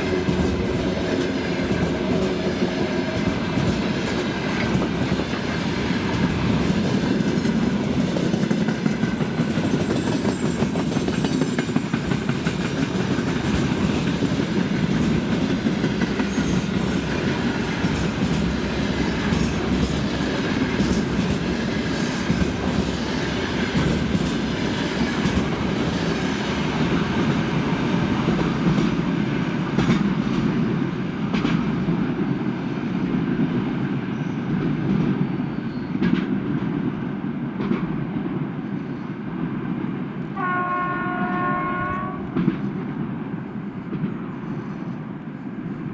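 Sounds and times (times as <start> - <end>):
freight train wheels clattering: 0.0 - 36.9.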